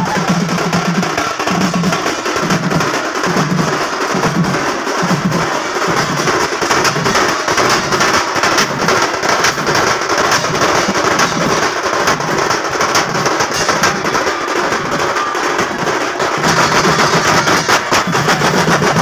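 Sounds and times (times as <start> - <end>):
percussion-heavy music: 0.0 - 19.0.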